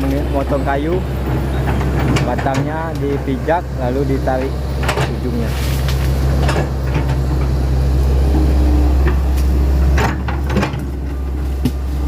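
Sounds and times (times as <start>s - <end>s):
excavator engine running: 0.0s - 12.0s
hydraulic whine: 0.0s - 12.0s.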